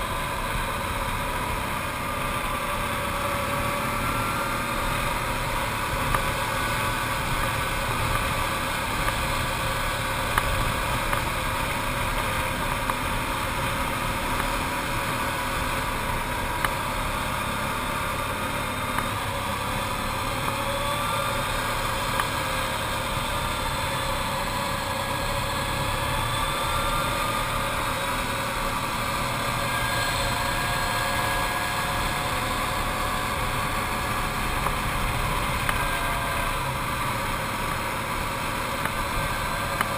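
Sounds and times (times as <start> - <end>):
atv engine under load: 0.0 - 39.9.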